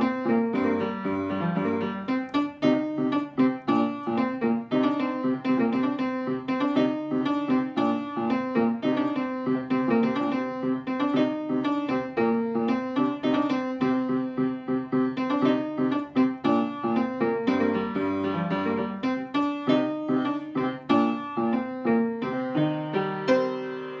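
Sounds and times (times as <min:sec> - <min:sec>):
upright piano playing: 0:00.0 - 0:24.0.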